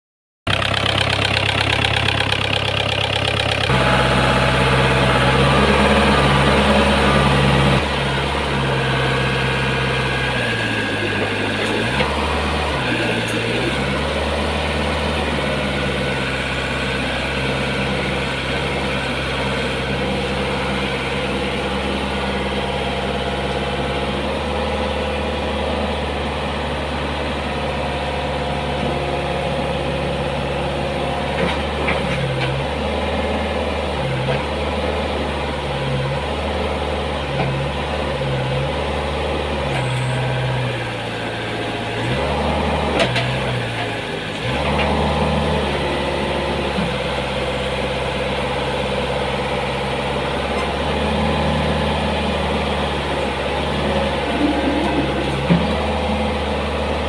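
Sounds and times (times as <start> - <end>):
excavator diesel engine running: 0.4 - 57.0.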